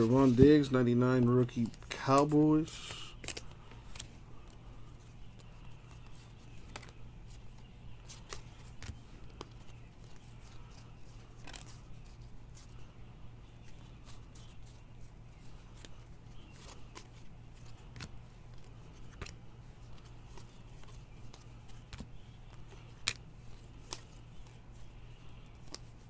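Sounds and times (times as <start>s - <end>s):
cards flipped through by hand: 0.0s - 26.0s
low steady hum: 0.0s - 26.0s.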